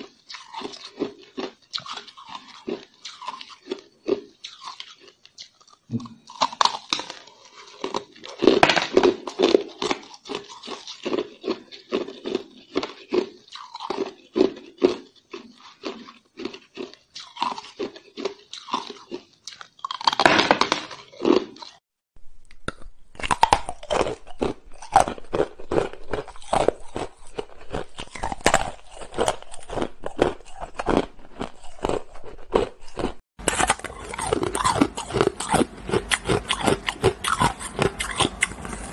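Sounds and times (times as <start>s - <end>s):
ice being chewed: 0.0s - 20.2s, 22.5s - 38.9s.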